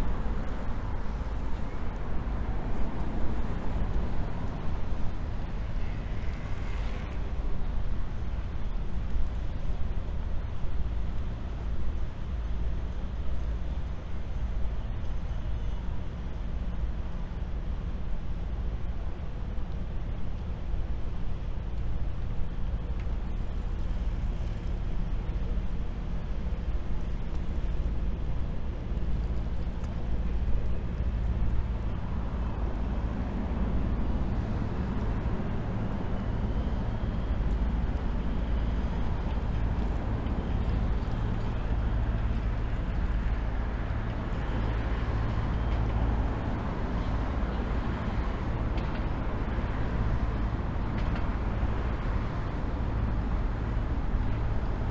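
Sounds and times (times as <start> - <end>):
traffic noise: 0.0 - 54.9.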